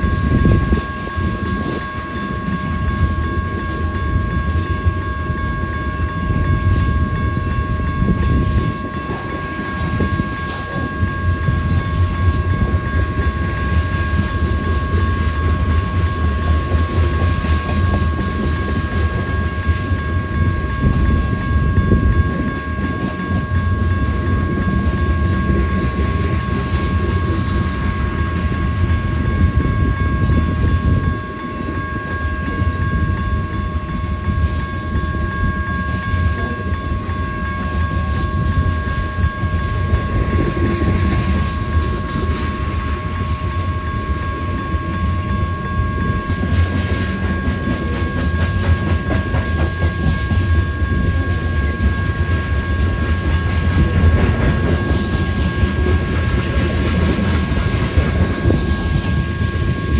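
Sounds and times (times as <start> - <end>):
train wheels rumbling and clacking: 0.0 - 59.9.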